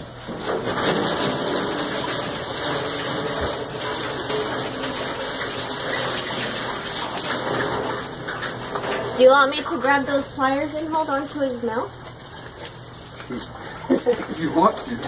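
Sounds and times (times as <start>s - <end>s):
water gushing from a tap: 0.3s - 15.0s.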